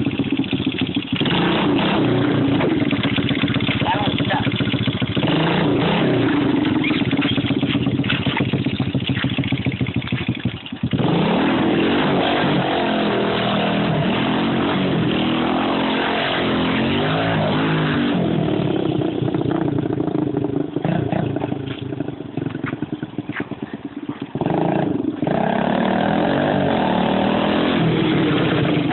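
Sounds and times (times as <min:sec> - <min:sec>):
minibike engine revving: 0:00.0 - 0:28.9.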